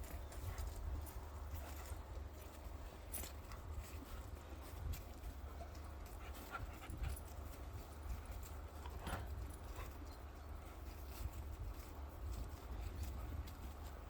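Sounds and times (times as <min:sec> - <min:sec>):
dogs panting: 0:00.0 - 0:14.0
paws scuffing: 0:00.0 - 0:14.0.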